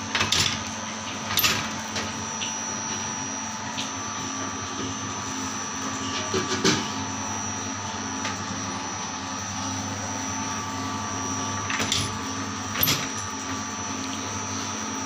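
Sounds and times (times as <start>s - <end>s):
machine motor humming and whining: 0.0s - 15.0s.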